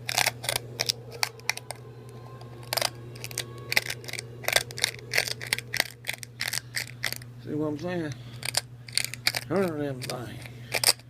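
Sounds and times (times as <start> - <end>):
hand coffee grinder crunching beans: 0.0 - 1.8, 2.5 - 7.3, 8.3 - 11.0.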